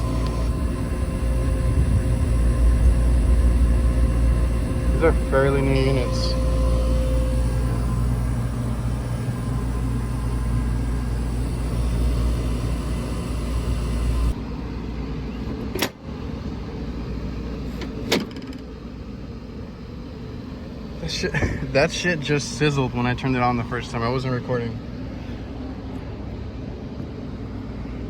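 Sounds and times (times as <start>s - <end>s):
hvac unit humming: 0.0s - 28.0s.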